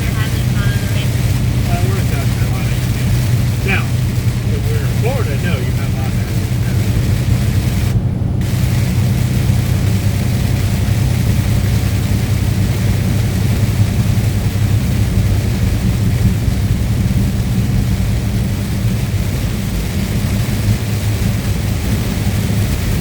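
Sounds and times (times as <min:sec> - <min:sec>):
truck engine drone: 0:00.0 - 0:23.0.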